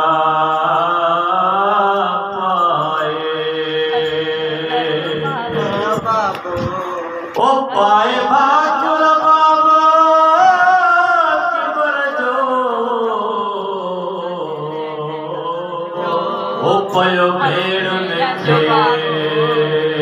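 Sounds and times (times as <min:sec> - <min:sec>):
lead singer on microphone: 0:00.0 - 0:20.0
men chanting a lament: 0:00.0 - 0:20.0.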